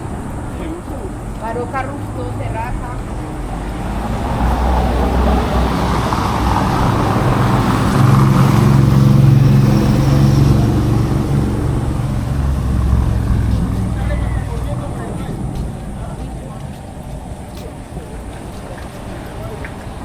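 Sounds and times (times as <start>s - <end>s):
steady low rumble: 0.0s - 20.0s
vehicle engine running: 0.0s - 20.0s.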